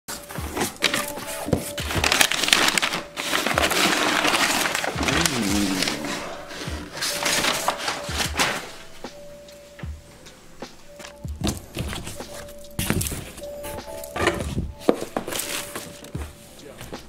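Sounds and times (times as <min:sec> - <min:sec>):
paper and plastic bags crinkling: 0:00.1 - 0:09.1, 0:11.0 - 0:17.0.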